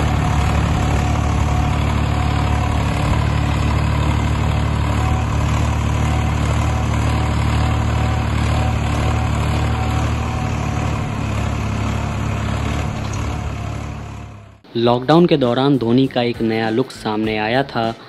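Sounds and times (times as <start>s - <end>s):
tractor diesel engine running: 0.0s - 14.8s.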